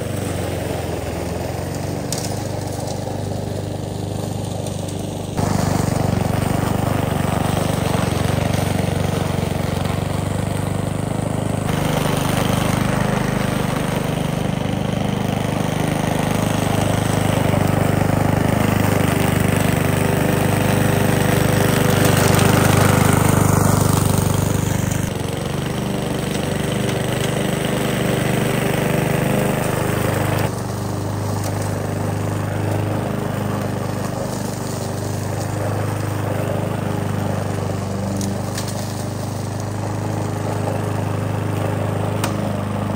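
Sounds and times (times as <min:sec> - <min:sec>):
push lawn mower engine running: 0:00.0 - 0:42.9.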